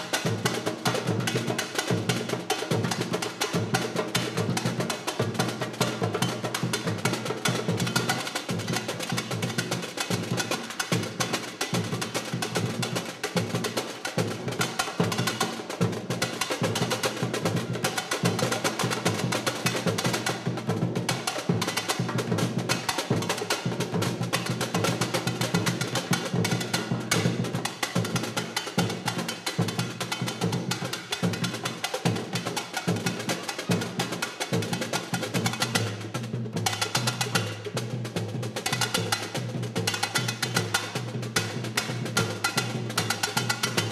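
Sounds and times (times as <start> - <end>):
samba percussion drumming: 0.0 - 43.9.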